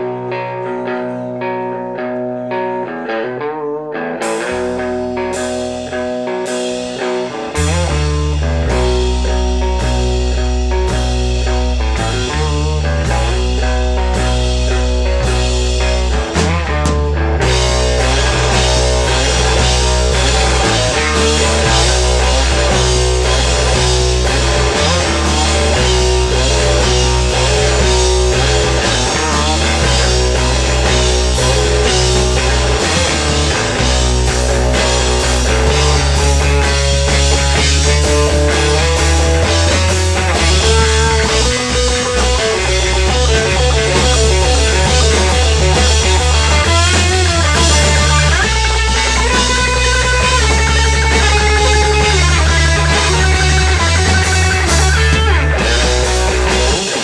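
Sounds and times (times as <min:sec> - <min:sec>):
bass notes: 0:00.0 - 0:57.0
guitar melody: 0:00.0 - 0:57.0
drums: 0:04.1 - 0:57.0.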